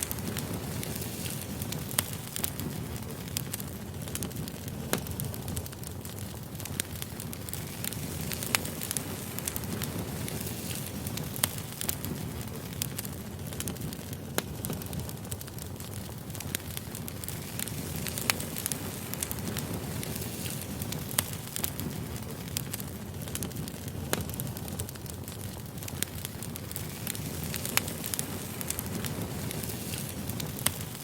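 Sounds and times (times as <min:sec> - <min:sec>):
campfire flame rushing: 0:00.0 - 0:31.0
fire crackling and popping: 0:00.0 - 0:31.0.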